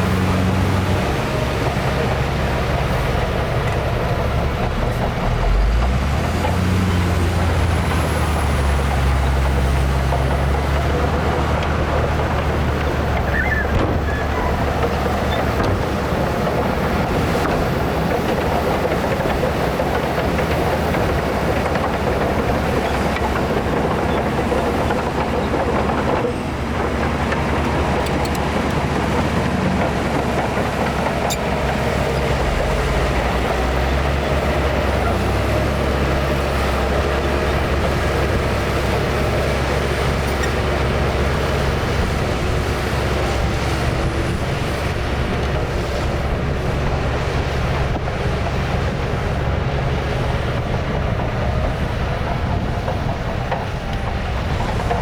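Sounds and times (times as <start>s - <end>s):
bulldozer diesel engine rumbling: 0.0s - 55.0s.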